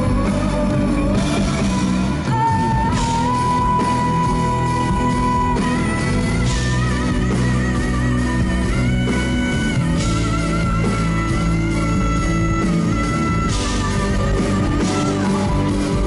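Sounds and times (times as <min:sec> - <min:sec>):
guitar long vibrato notes: 0:00.0 - 0:16.0
live band music: 0:00.0 - 0:16.0
steady bass: 0:00.0 - 0:16.0.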